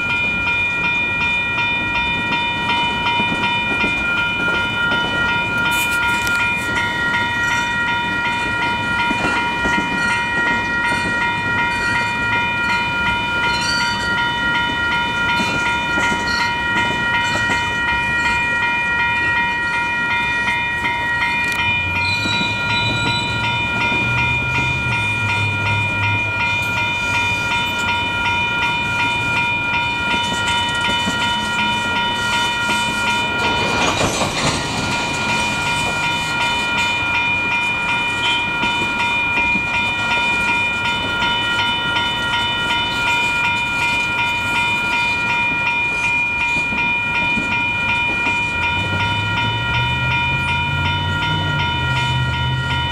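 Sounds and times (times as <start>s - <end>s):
crossing warning bells ringing: 0.0s - 52.9s
diesel locomotive engine rumbling: 0.0s - 52.9s.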